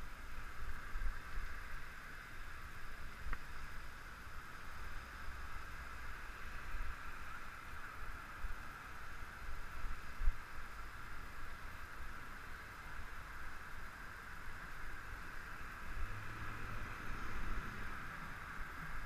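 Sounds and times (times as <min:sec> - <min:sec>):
road noise hiss: 0:00.0 - 0:19.0.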